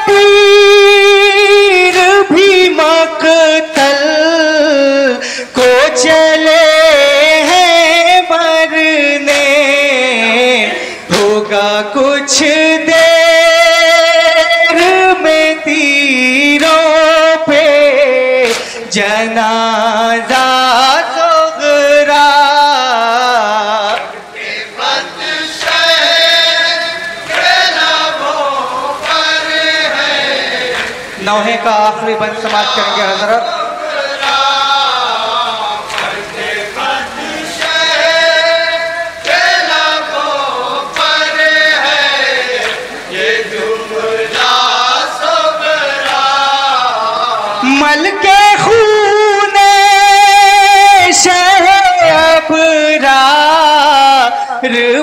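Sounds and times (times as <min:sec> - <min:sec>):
men singing a lament: 0:00.0 - 0:55.0.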